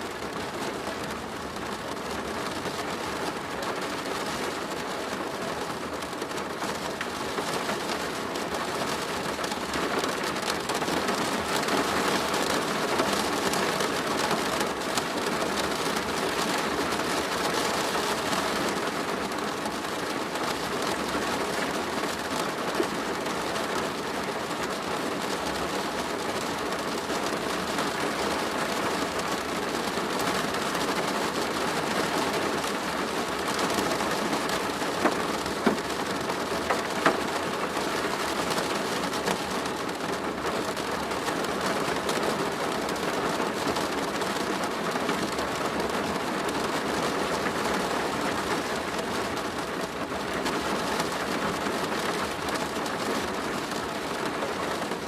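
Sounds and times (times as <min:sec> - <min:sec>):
rain drumming on a plastic roof: 0:00.0 - 0:55.0.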